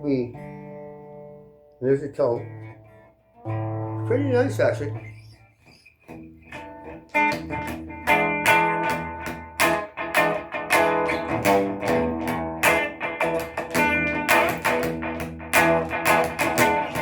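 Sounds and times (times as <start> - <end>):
electric guitar chords and notes: 0.0 - 17.0.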